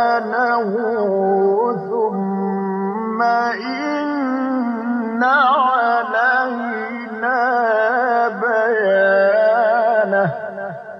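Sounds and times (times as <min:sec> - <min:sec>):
person reciting melodically: 0:00.0 - 0:10.9.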